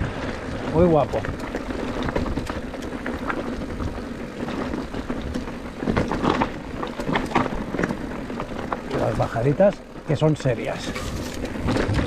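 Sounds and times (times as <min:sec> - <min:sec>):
bike rattling: 0:00.0 - 0:12.0
tyres crunching on stones: 0:00.1 - 0:12.0.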